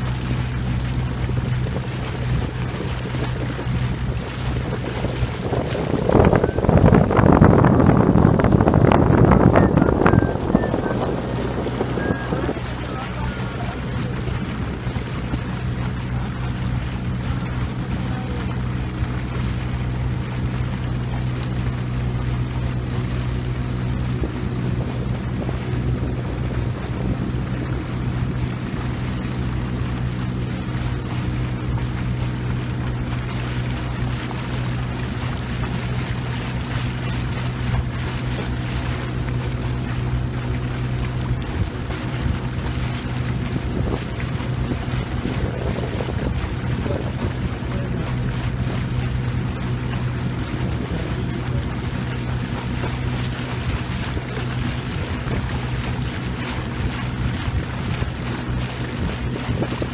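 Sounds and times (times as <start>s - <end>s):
boat motor humming: 0.0s - 59.9s
water rushing past hull: 0.0s - 59.9s
wind buffeting microphone: 0.0s - 59.9s.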